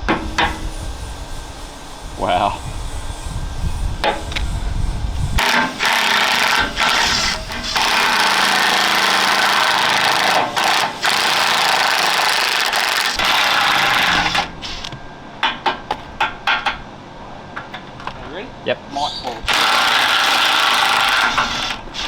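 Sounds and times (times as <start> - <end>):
pneumatic air hammer rattling: 0.0 - 16.8, 19.1 - 22.0.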